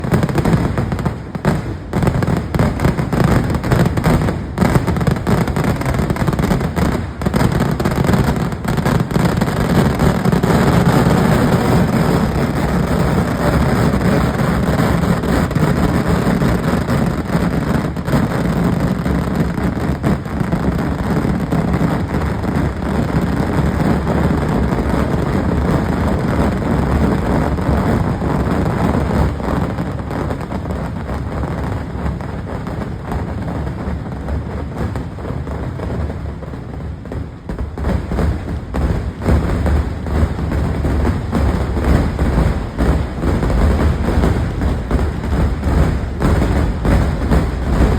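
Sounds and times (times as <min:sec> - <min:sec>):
fireworks barrage: 0:00.0 - 0:47.9.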